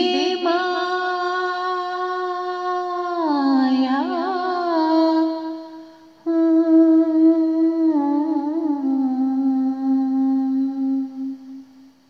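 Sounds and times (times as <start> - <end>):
woman singing unaccompanied: 0.0 - 11.6.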